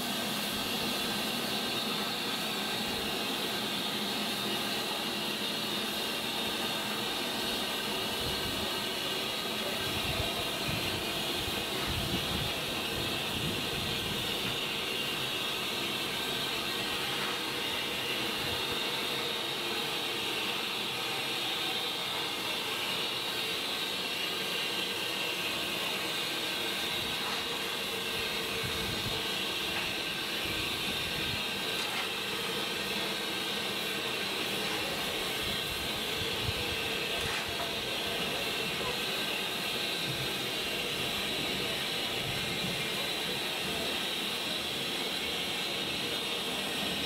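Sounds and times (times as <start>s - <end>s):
steam locomotive hissing: 0.0s - 47.0s.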